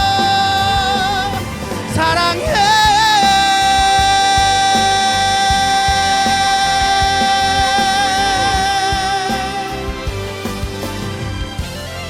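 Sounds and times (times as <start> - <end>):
drum hits: 0.0 - 12.0
live pop band: 0.0 - 12.0.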